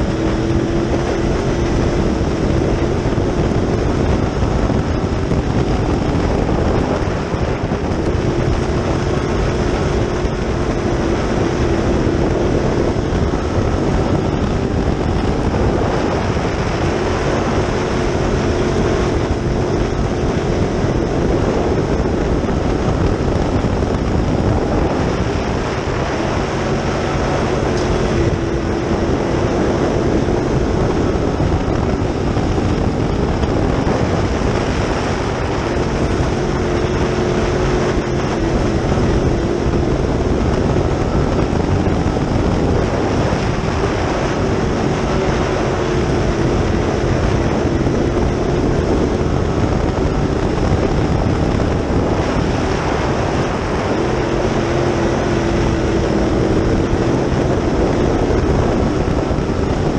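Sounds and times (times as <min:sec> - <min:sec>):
race car engine roaring: 0:00.0 - 0:59.9.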